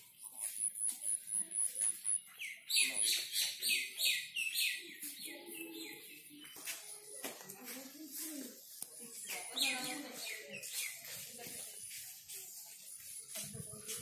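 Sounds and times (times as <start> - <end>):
birds chirping: 0.0 - 14.0
faint distant voices: 0.0 - 14.0.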